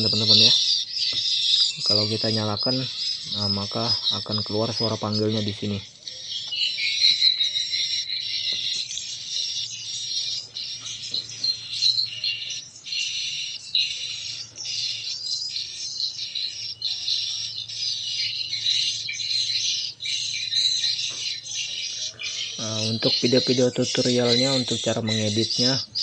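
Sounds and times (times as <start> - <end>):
birds chirping and twittering: 0.0 - 26.0.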